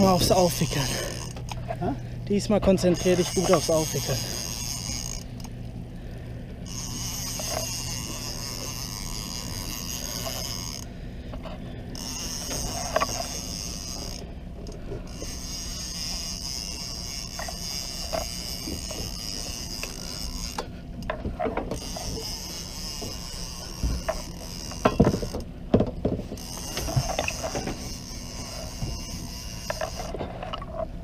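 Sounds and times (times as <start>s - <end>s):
fishing reel clicks: 0.0s - 1.6s, 2.8s - 5.8s, 6.6s - 10.9s, 11.9s - 20.7s, 21.7s - 25.5s, 26.4s - 30.7s
fishing reel buzzing: 0.0s - 25.5s, 26.2s - 30.9s
steady low hum: 0.0s - 31.0s.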